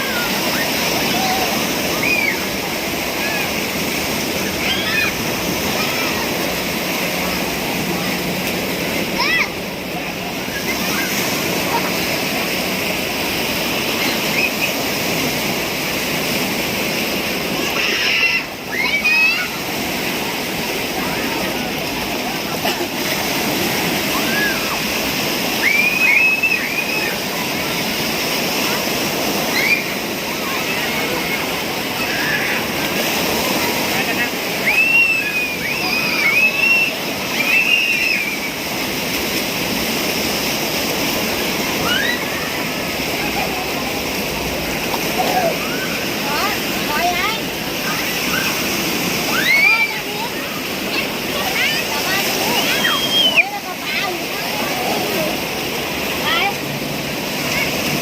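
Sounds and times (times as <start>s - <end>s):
churning water rushing: 0.0s - 58.0s.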